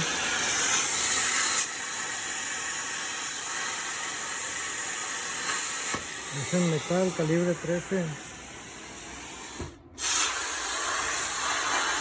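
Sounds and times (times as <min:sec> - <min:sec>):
plasma cutting torch hissing: 0:00.0 - 0:12.0.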